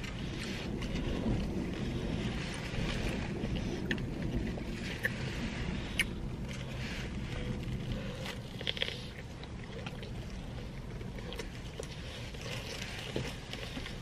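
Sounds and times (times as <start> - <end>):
chewing sandwich: 0.0 - 14.0.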